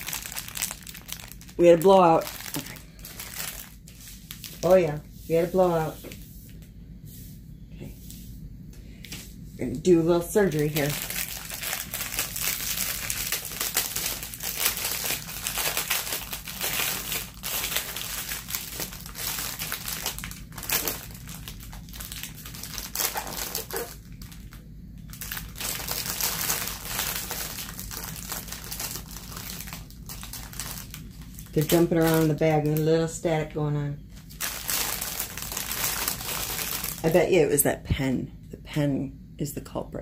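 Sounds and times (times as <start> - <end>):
plastic bags crinkling: 0.0 - 6.0, 10.2 - 33.5, 34.1 - 37.3.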